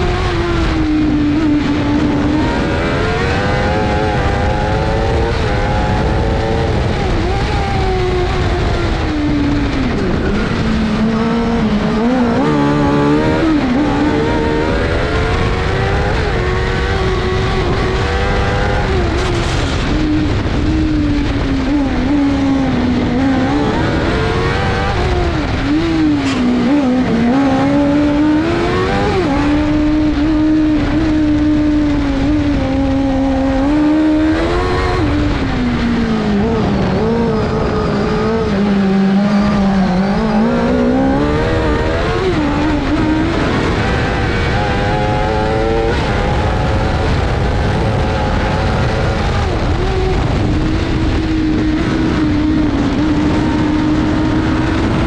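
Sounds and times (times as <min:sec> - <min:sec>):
motorcycle engine at racing speed: 0:00.0 - 0:55.0.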